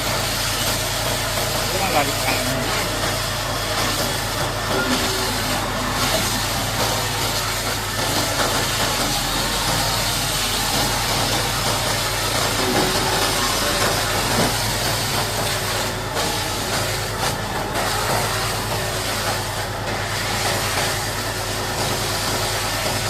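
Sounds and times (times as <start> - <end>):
heavy engine idling: 0.0 - 23.0
high-pressure water jet hissing: 0.0 - 23.0.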